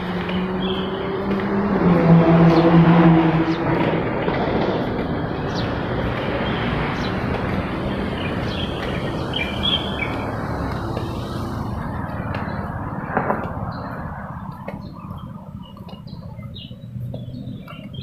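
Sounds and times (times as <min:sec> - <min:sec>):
vehicle engine passing: 0:00.0 - 0:15.4
traffic rumble: 0:00.0 - 0:18.0.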